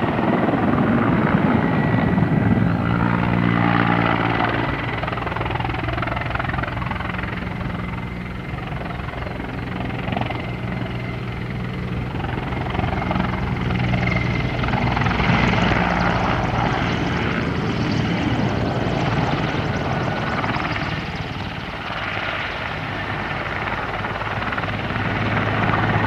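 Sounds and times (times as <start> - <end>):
helicopter rotor and turbines: 0.0 - 26.0.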